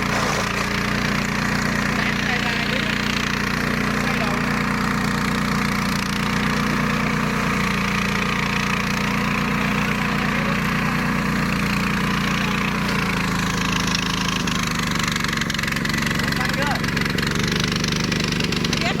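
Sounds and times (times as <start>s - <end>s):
mower engine running: 0.0s - 19.0s.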